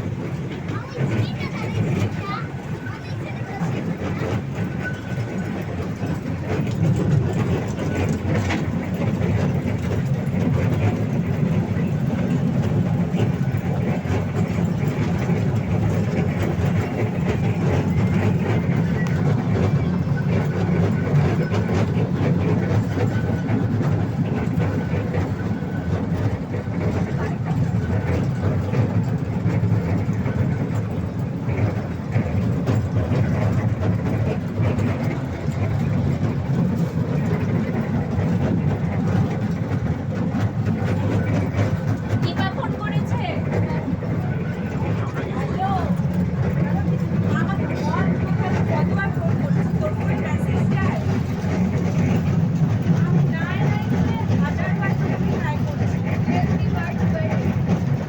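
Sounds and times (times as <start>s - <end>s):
faint rail clatter: 0.0s - 58.0s
toy train low rumble: 0.0s - 58.0s.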